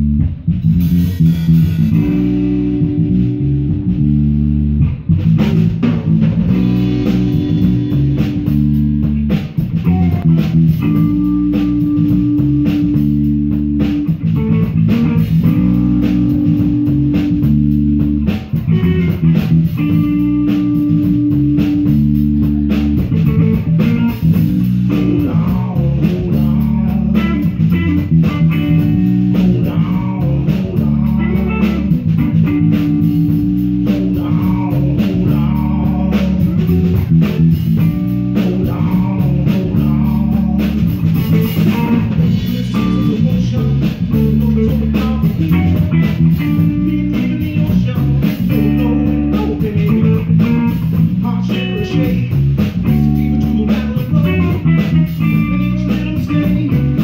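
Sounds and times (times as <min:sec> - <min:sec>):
bass guitar: 0:00.0 - 0:57.0
drum kit beat: 0:00.0 - 0:57.0
electric guitar: 0:00.0 - 0:57.0.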